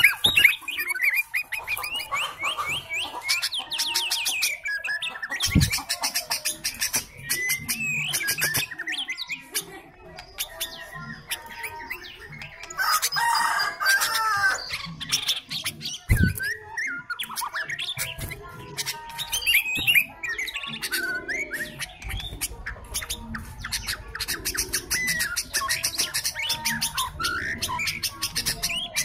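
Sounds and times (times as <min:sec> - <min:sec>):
bird singing warbling notes: 0:00.0 - 0:13.8, 0:14.4 - 0:29.0
rapid clicky bird chatter: 0:00.0 - 0:29.0.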